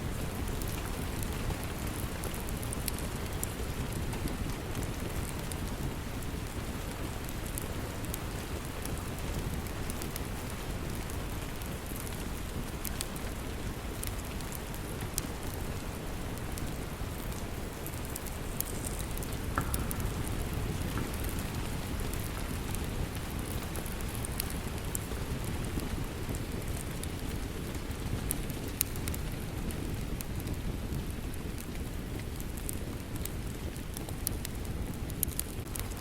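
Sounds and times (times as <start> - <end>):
log fire crackling: 0.0 - 36.0
steady rain: 0.0 - 36.0.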